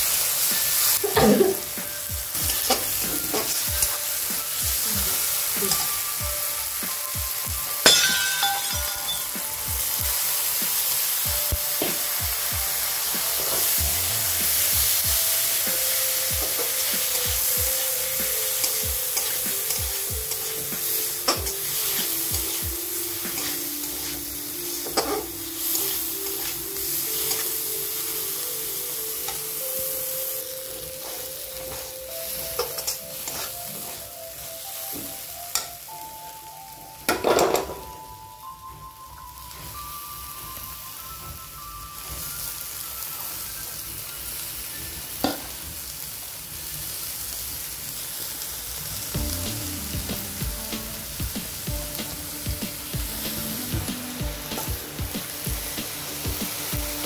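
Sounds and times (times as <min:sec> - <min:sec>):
food sizzling in oil: 0:00.0 - 0:57.0
faint simple melody: 0:00.8 - 0:45.2, 0:49.2 - 0:57.0.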